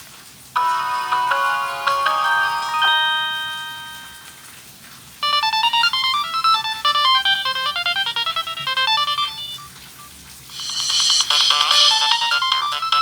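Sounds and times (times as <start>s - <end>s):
phone ringtone melody: 0.6s - 4.6s, 5.2s - 13.0s.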